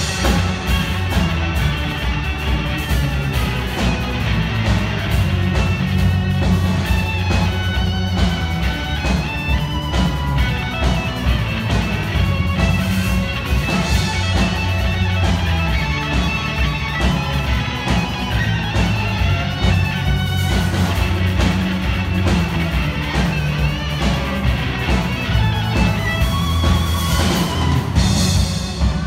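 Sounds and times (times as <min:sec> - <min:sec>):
electric guitar: 0:00.0 - 0:29.0
string orchestra playing rock: 0:00.0 - 0:29.0.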